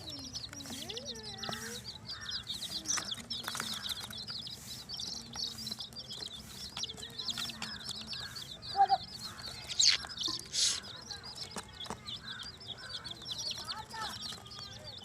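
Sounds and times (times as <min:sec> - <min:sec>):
baby chicks peeping: 0:00.0 - 0:15.0.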